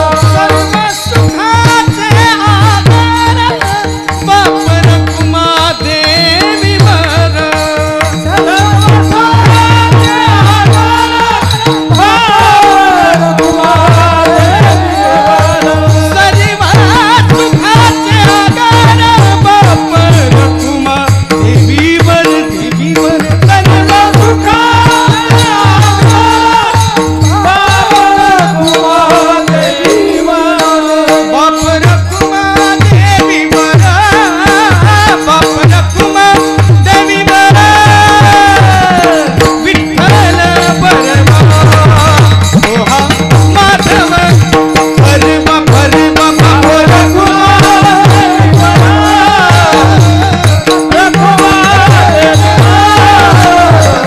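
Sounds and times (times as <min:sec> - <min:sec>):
devotional singing melody: 0:00.0 - 0:54.0
hand cymbals jingling: 0:00.0 - 0:54.0
hand drum beating: 0:00.0 - 0:54.0.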